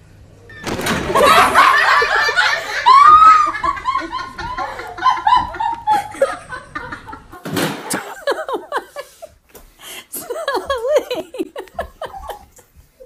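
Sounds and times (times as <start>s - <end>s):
person laughing: 1.1s - 9.3s, 10.1s - 12.7s.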